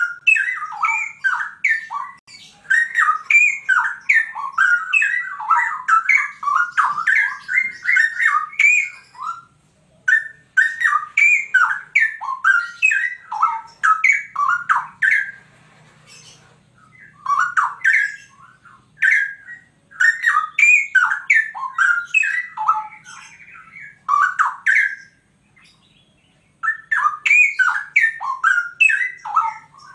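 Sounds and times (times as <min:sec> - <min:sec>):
bird singing sweeping notes: 0:00.0 - 0:29.9.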